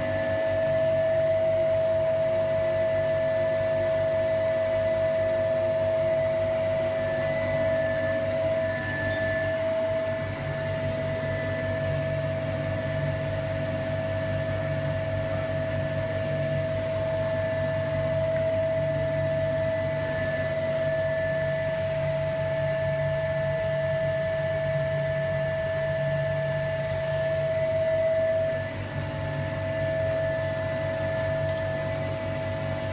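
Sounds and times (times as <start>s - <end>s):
vacuum pump humming and whining: 0.0s - 32.9s.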